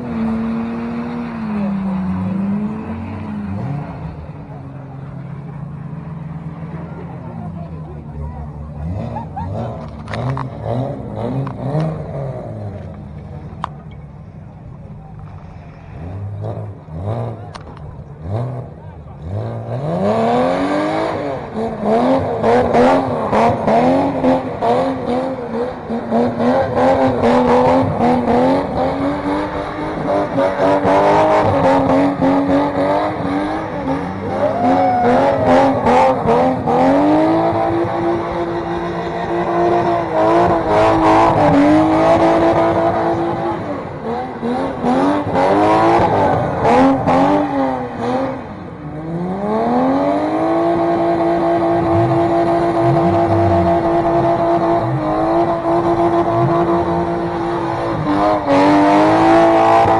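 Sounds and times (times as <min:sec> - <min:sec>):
car engine revving hard: 0:08.6 - 0:12.9, 0:15.7 - 0:59.9.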